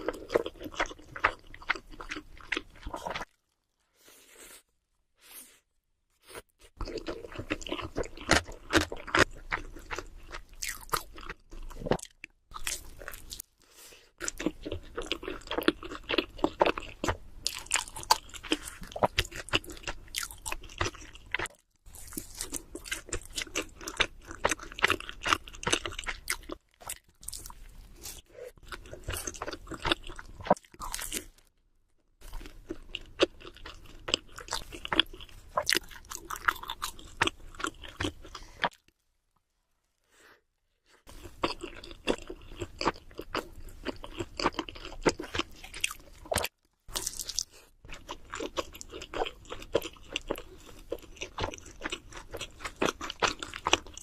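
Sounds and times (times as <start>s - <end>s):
crunchy pizza chewing: 0.0s - 3.5s, 6.8s - 13.5s, 14.2s - 31.4s, 32.2s - 38.9s, 41.0s - 54.0s.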